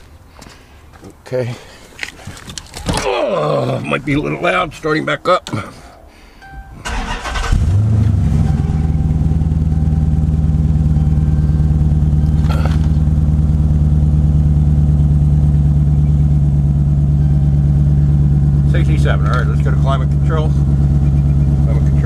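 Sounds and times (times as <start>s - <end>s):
car engine starting and idling: 2.6s - 22.0s.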